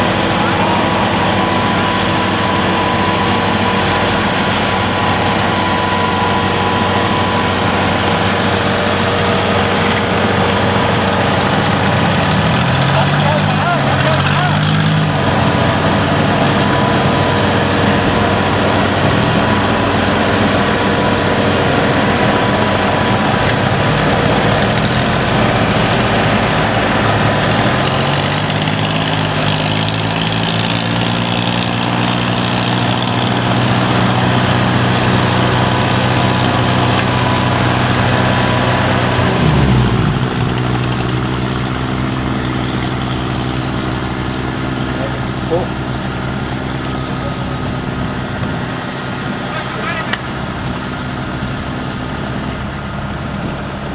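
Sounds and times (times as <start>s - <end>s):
diesel engine running loudly: 0.0s - 53.9s.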